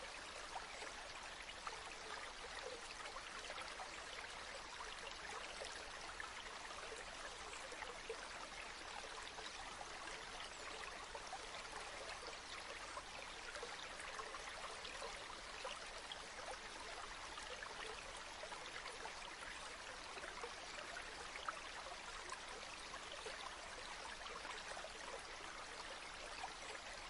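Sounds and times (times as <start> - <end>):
river water babbling: 0.0 - 27.0.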